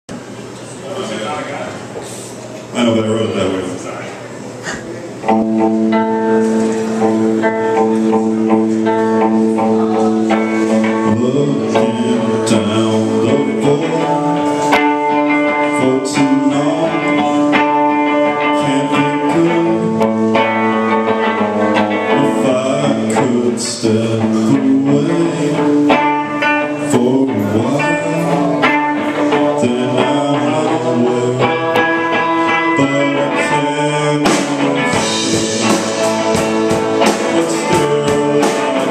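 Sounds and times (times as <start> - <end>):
live rock band playing: 5.1 - 38.9.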